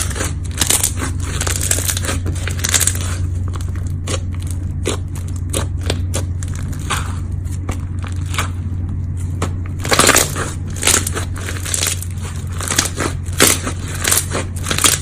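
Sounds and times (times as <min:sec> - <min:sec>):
slime crackling and popping: 0:00.0 - 0:15.0
steady low hum: 0:00.0 - 0:15.0.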